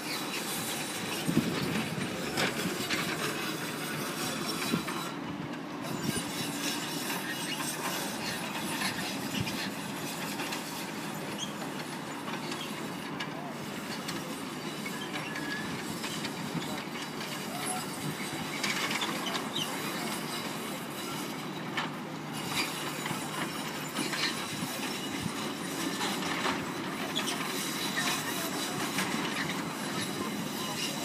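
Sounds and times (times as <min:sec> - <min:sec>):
steady mechanical rumble: 0:00.0 - 0:31.0.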